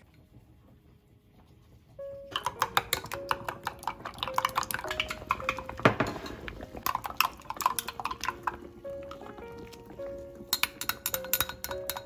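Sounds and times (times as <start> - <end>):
utensil clinking on glass: 2.3 - 12.0.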